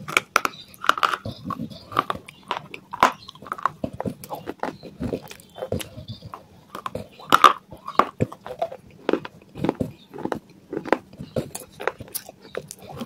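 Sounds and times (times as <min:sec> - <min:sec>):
crunching on clay pot pieces: 0:00.0 - 0:13.0.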